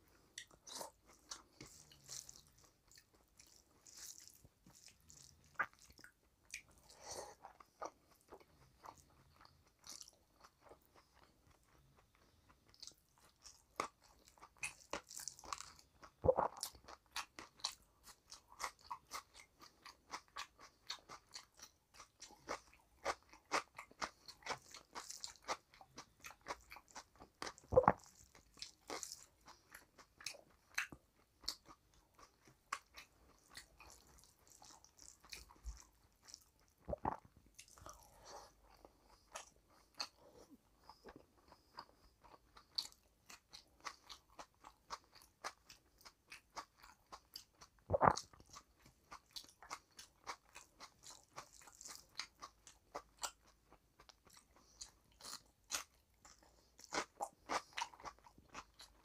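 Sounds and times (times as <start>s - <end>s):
wet chewing and smacking: 0.0s - 59.0s.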